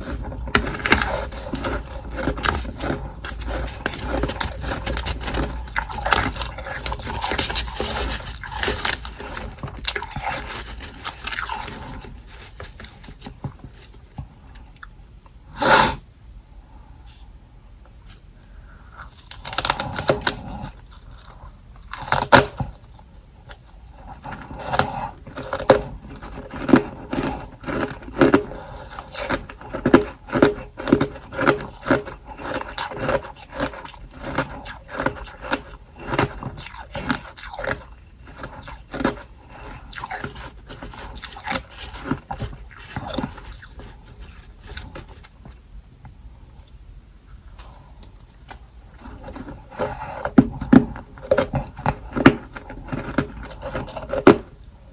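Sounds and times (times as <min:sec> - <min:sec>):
frost being chewed crunching: 0:00.0 - 0:15.0, 0:18.6 - 0:45.8, 0:46.4 - 0:54.9.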